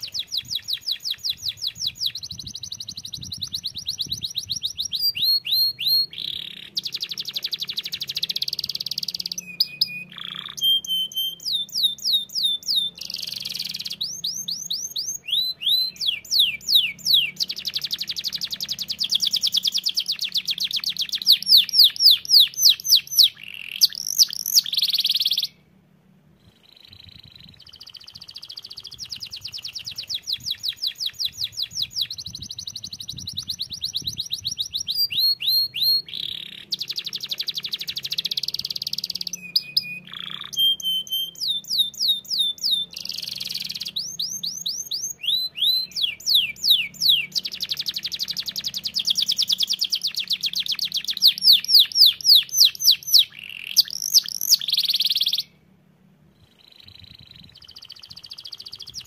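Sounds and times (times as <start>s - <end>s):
canary singing trills: 0.0s - 25.7s, 26.4s - 55.6s, 56.4s - 59.0s.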